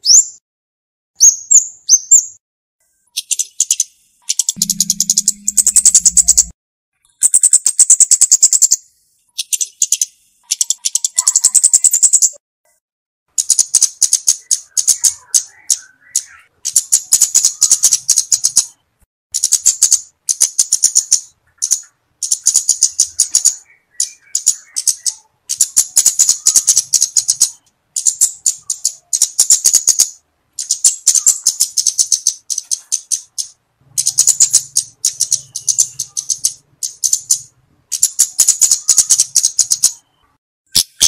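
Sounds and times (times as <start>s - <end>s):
bird high ticking calls: 1.2s - 12.4s, 13.3s - 18.8s, 19.4s - 41.0s.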